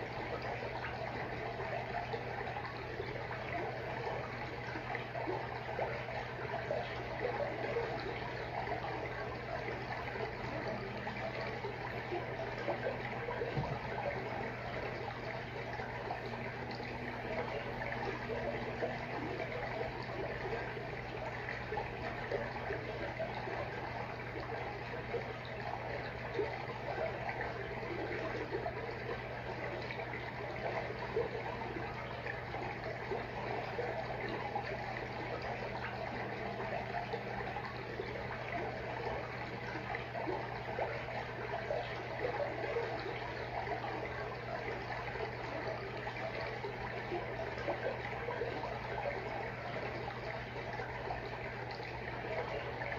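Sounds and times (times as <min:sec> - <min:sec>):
aquarium water trickling: 0:00.0 - 0:52.9
constant low hum: 0:00.0 - 0:52.9.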